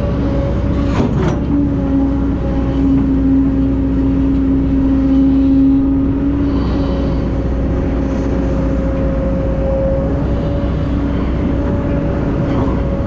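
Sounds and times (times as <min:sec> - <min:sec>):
heavy machinery diesel engine: 0:00.0 - 0:13.0
steady droning tone: 0:01.5 - 0:13.0.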